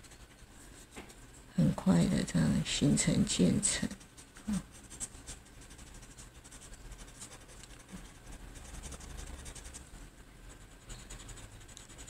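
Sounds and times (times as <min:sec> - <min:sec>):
scratchy rustle on paper: 0:00.0 - 0:12.0.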